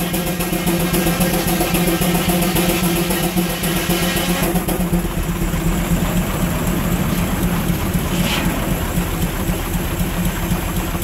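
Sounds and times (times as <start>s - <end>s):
steam engine sawmill hum: 0.0s - 11.0s.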